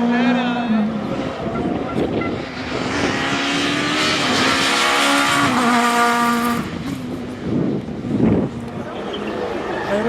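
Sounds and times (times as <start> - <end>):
rally car engine revving: 0.0 - 9.4.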